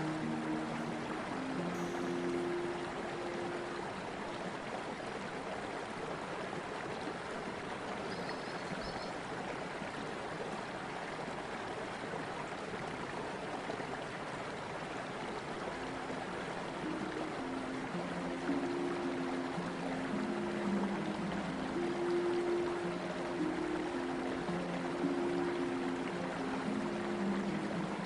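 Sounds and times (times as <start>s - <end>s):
floodwater rushing through rapids: 0.0s - 28.0s.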